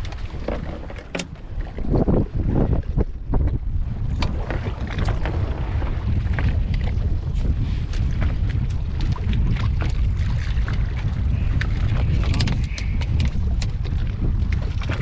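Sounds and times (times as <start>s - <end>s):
knocks and splashes: 0.0s - 15.0s
water lapping at boat: 0.0s - 15.0s
wind rumbling on microphone: 0.0s - 15.0s.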